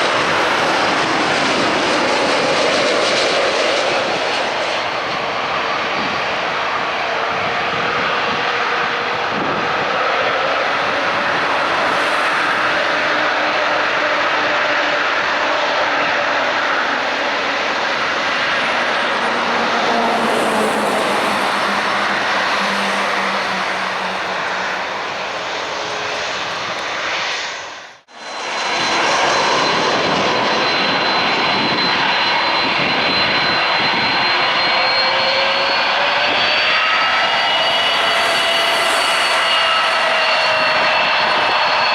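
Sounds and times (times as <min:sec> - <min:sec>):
jet engines roaring and whining: 0:00.0 - 0:41.9.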